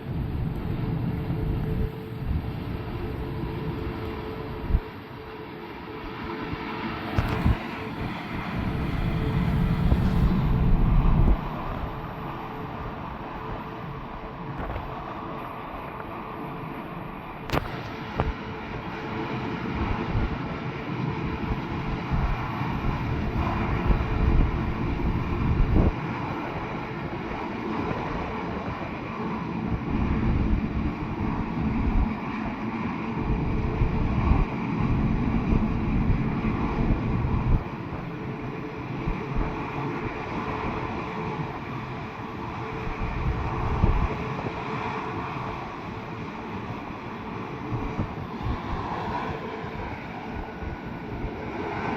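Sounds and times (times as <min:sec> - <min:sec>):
jet engines roaring: 0:00.0 - 0:51.9
wind buffeting microphone: 0:00.0 - 0:51.9.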